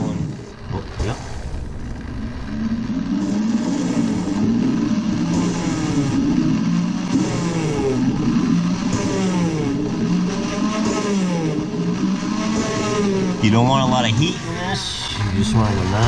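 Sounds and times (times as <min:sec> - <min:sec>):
electric drill motor: 0:00.0 - 0:16.0
gritty valve grinding: 0:00.0 - 0:16.0.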